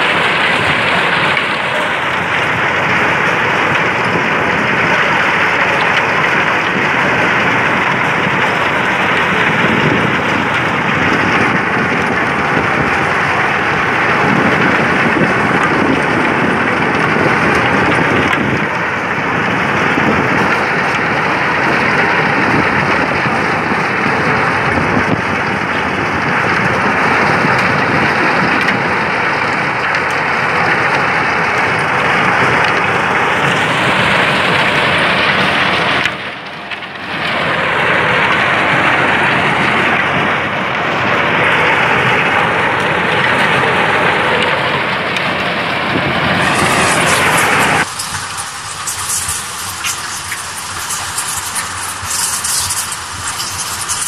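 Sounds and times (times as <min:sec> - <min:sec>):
log debarking machine running: 0:00.0 - 0:54.0.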